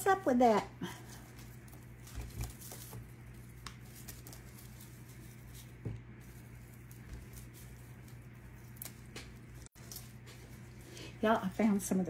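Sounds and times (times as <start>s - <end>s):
dried stems crackling: 0.0s - 12.0s
steady low hum: 0.0s - 12.0s.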